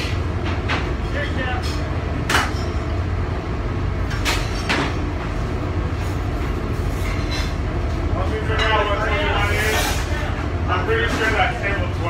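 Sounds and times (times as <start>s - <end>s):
kitchen low rumble: 0.0s - 12.0s.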